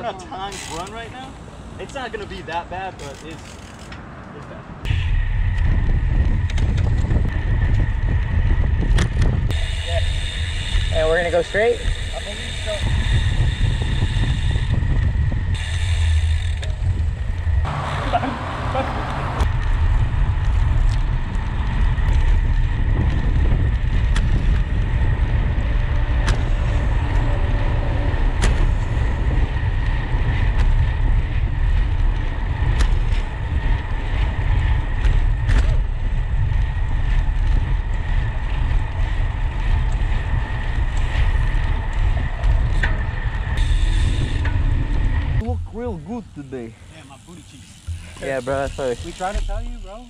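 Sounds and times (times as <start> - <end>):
sharp clicks from bumps: 0.4 - 45.8, 47.3 - 50.0
wind buffeting microphone: 4.7 - 46.4.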